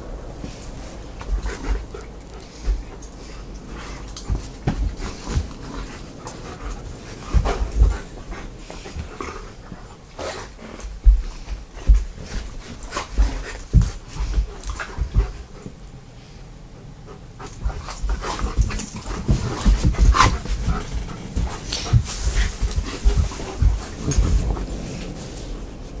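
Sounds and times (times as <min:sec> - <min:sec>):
dog moving with clicks and knocks: 0:00.2 - 0:16.0, 0:17.1 - 0:26.0.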